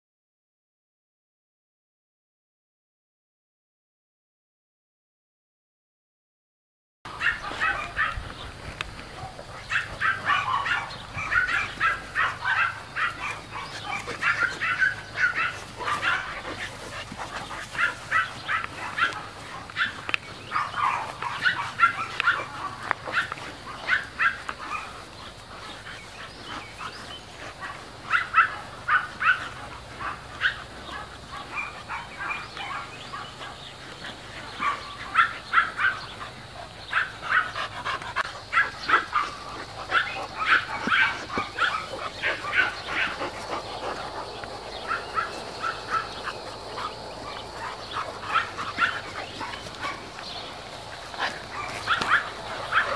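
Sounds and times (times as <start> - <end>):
puppies barking and yipping: 7.1 - 52.9.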